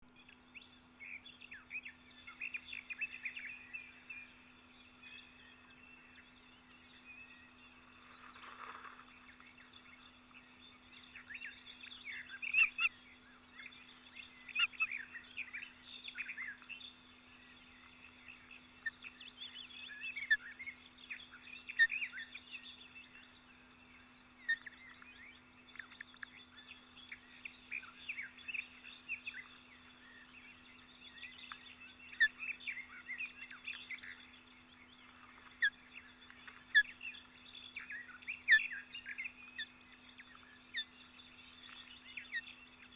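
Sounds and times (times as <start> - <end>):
faint steady low hum: 0.0 - 42.9
small birds chirping: 0.0 - 42.9.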